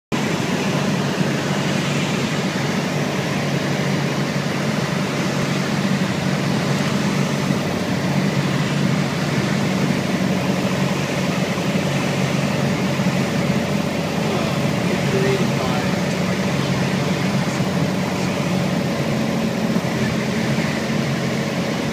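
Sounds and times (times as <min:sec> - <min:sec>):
air noise: 0:00.1 - 0:21.9
propeller plane engine drone: 0:00.1 - 0:21.9.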